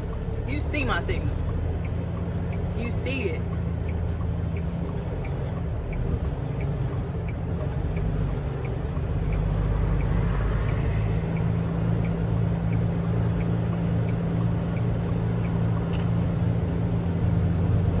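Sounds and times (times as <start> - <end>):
diesel engine running: 0.0 - 18.0
turn signal ticking: 0.0 - 18.0.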